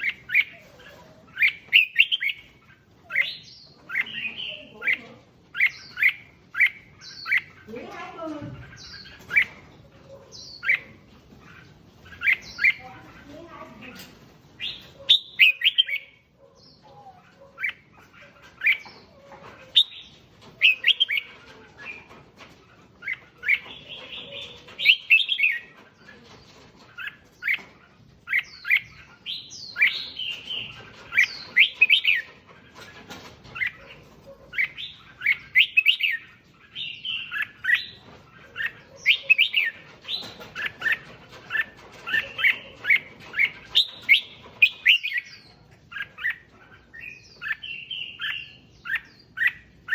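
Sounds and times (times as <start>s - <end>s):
bird singing warbled phrases: 0.0s - 49.9s.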